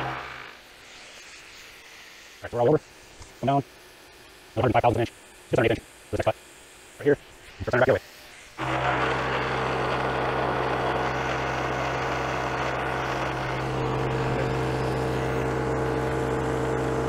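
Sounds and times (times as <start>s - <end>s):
cutter milling steel: 0.0s - 3.7s, 4.4s - 17.0s
milling machine hum: 0.0s - 17.0s.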